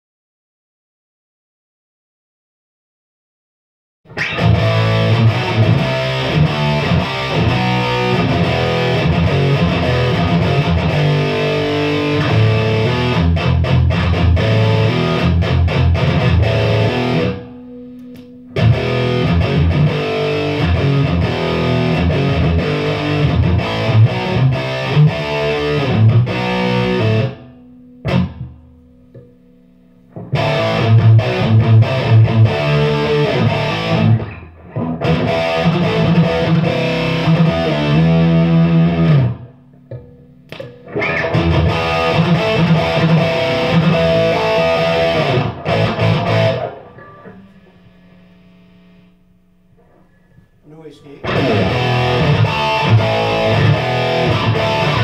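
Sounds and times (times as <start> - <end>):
distorted electric guitar riffs: 4.1 - 55.0
faint amplifier hum: 4.2 - 55.0.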